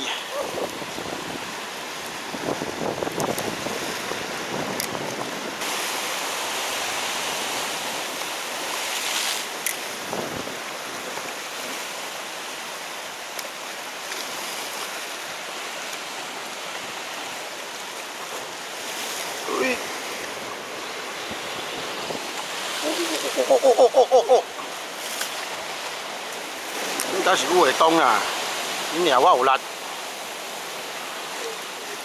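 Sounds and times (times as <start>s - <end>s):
sea surf on rocky shore: 0.0s - 32.0s.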